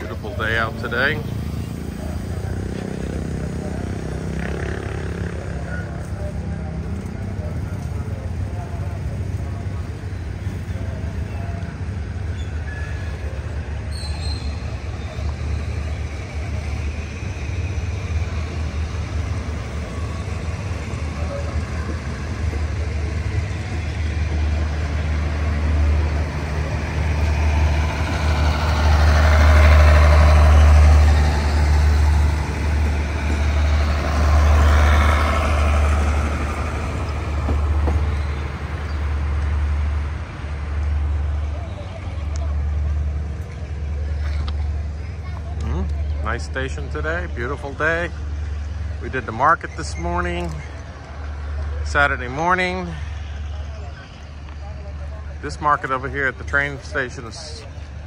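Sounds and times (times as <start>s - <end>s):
diesel train engine drone: 0.0s - 58.0s.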